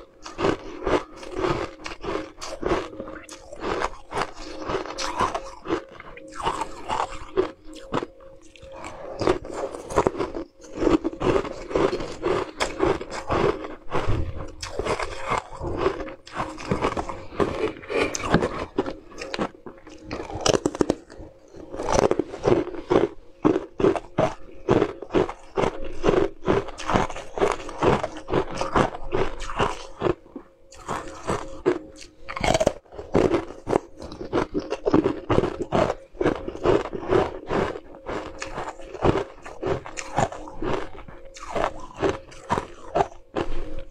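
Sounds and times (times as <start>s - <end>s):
crunchy ice chewing: 0.0s - 43.9s.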